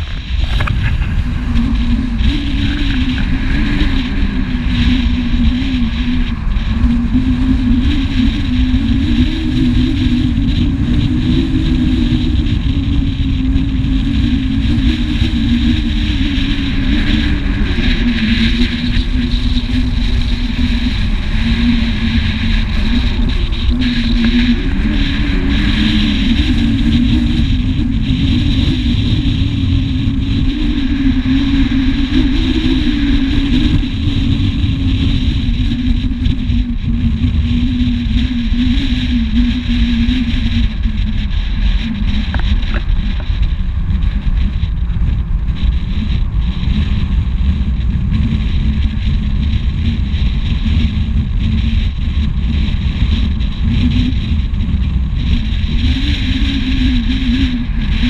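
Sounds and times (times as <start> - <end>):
car engine drone: 0.0 - 58.0
wind and road noise: 0.0 - 58.0.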